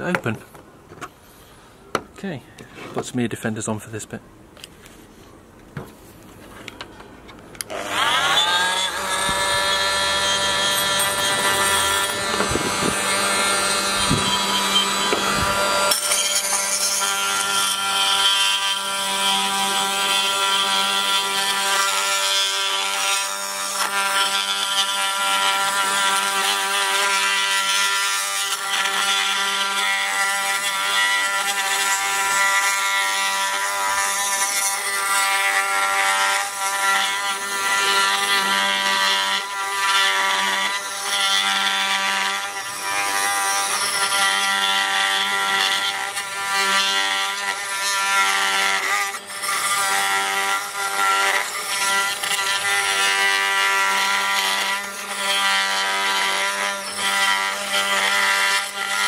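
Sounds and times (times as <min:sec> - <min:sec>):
oscillating multi-tool cutting plastic: 0:07.6 - 0:59.0.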